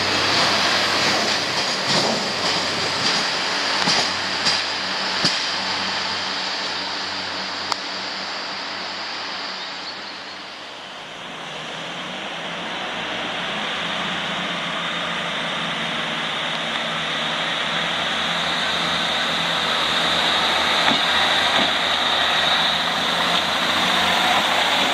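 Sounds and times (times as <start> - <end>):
diesel train running: 0.0 - 24.9.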